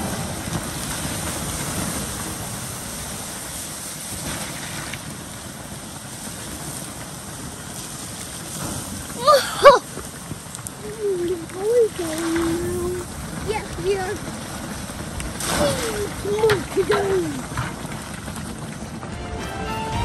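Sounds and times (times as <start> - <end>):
water hissing on hot coals: 0.0 - 19.1.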